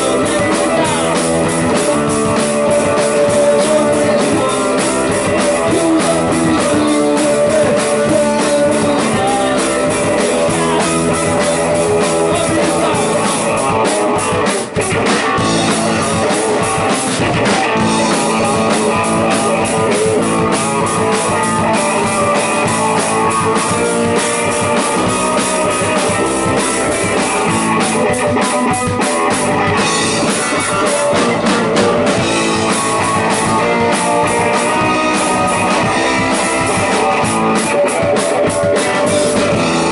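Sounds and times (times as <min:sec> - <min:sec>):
rock band music: 0:00.0 - 0:39.9.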